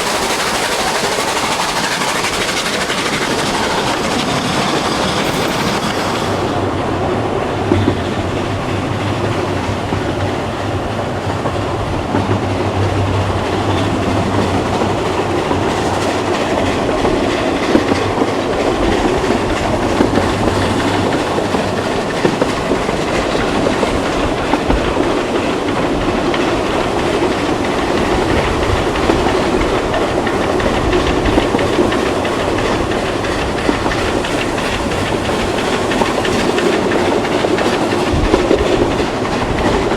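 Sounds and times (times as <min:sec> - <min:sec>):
train rumble: 0:00.0 - 0:39.9
train wheels clickety-clack: 0:00.0 - 0:39.9.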